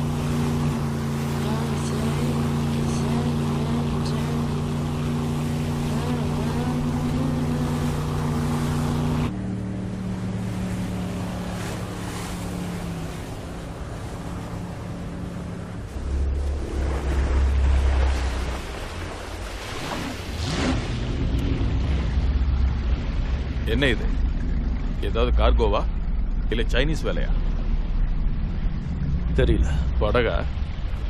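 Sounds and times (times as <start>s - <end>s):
boat engine running at speed: 0.0s - 31.0s
deep low rumble: 0.0s - 31.0s
wash of waves: 0.0s - 31.0s.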